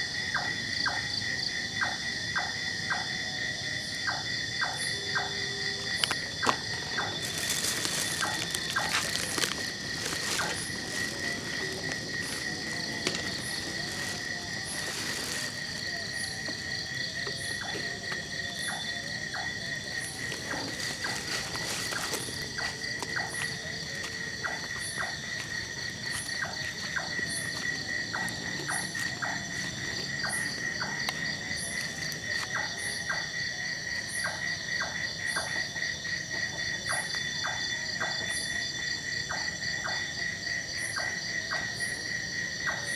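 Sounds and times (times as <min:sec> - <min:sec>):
crickets trilling: 0:00.0 - 0:42.9
high insect chirp: 0:00.0 - 0:42.9.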